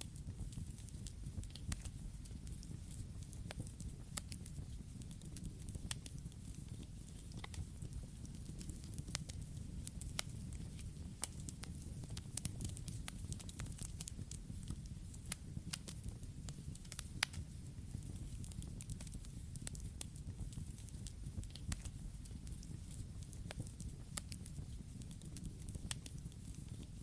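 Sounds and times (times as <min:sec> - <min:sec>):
burning wood crackling and popping: 0:00.0 - 0:27.0
campfire flames rumbling: 0:00.2 - 0:27.0.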